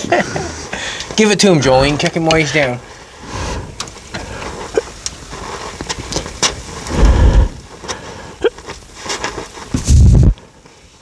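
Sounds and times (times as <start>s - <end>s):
weld crackling and popping: 0.0s - 11.0s
welding torch hissing: 0.0s - 11.0s.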